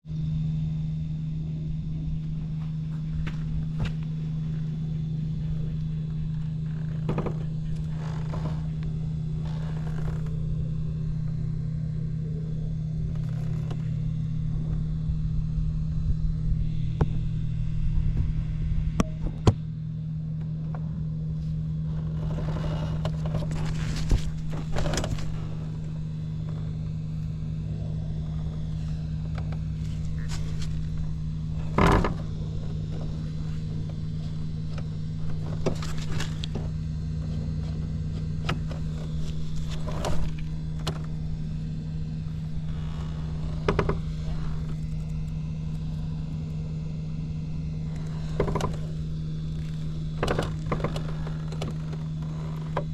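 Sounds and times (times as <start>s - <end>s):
scooter engine idling: 0.1s - 52.9s.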